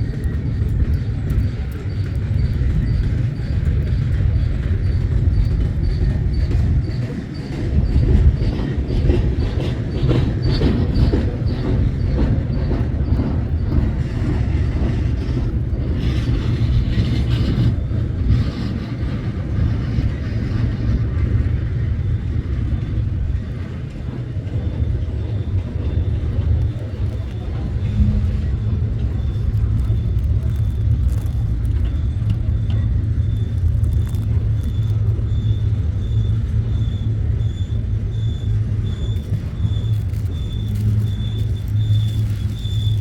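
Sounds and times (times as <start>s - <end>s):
freight train rumbling past: 0.0s - 43.0s
wheels clicking over rail joints: 0.0s - 43.0s.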